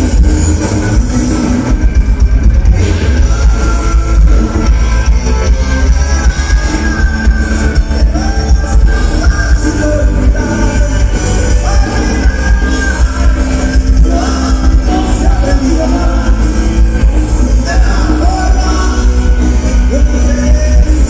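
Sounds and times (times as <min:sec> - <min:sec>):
live rock band playing: 0:00.0 - 0:21.0
singer holding long notes: 0:02.6 - 0:21.0.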